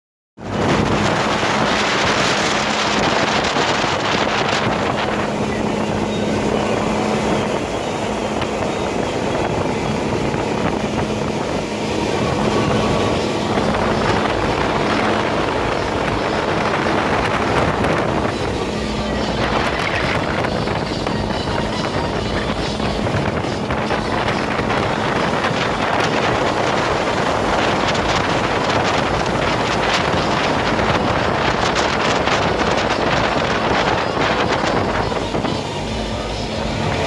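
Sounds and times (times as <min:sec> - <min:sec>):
motorboat engine humming: 0:00.4 - 0:37.0
wind noise on microphone: 0:00.4 - 0:37.0.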